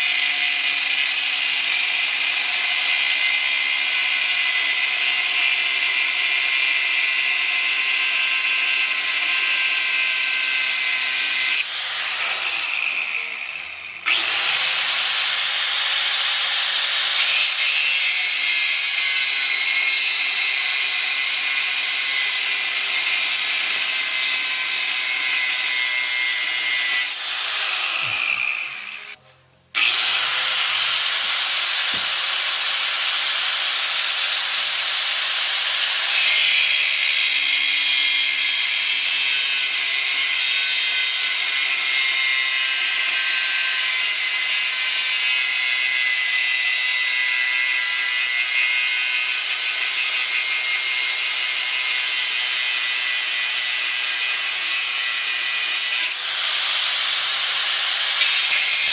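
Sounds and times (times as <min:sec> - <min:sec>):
power tool grinding steel: 0:00.0 - 0:29.2, 0:29.8 - 0:58.9.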